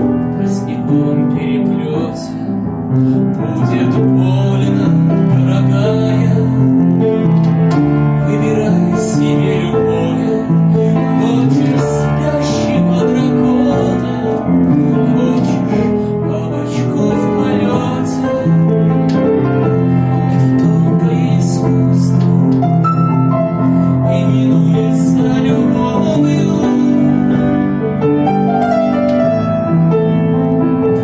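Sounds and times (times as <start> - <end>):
gentle song with piano: 0.0 - 31.0.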